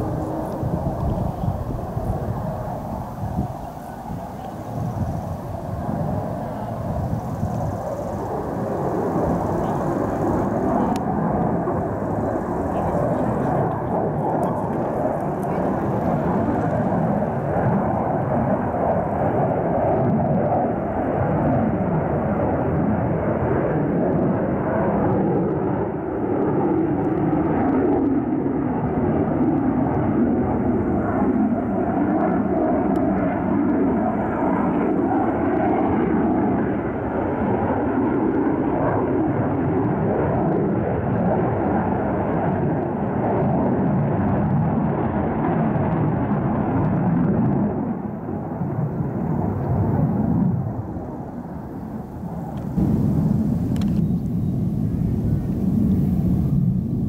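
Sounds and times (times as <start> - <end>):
jet engine rumble overhead: 0.0 - 57.0.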